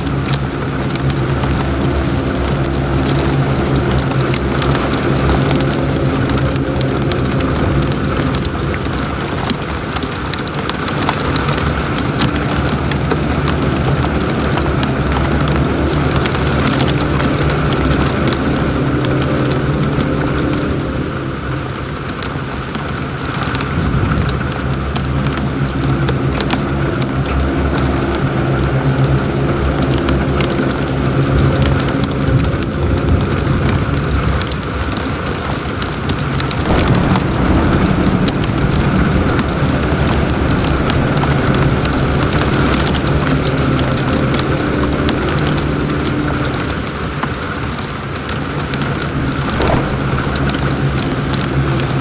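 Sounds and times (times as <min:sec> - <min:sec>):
car engine hum: 0:00.0 - 0:52.0
heavy rain on car windshield: 0:00.0 - 0:52.0.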